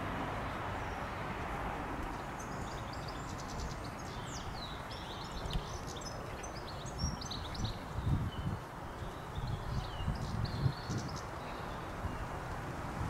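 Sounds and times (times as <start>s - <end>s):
small birds chirping: 0.4s - 12.7s.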